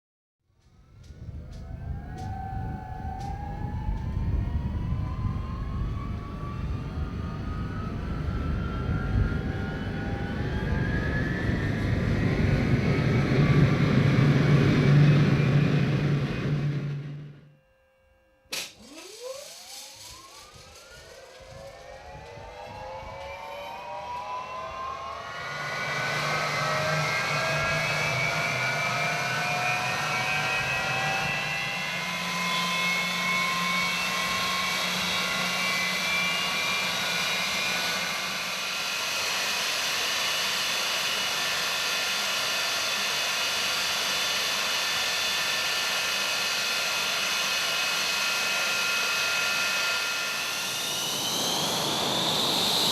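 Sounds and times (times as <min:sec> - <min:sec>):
jet engine starting up: 0:00.6 - 0:17.5, 0:18.5 - 0:52.9.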